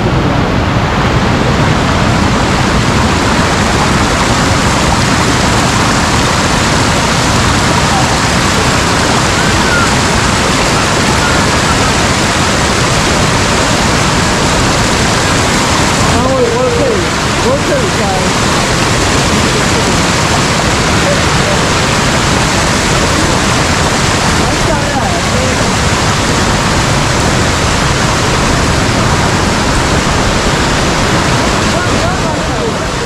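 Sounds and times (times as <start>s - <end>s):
waterfall rushing: 0.0s - 33.0s
faint voices: 4.2s - 33.0s.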